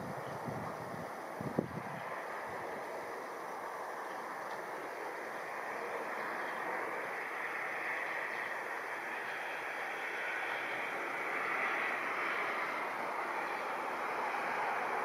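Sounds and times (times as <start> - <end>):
distant jet engines: 0.0 - 15.0.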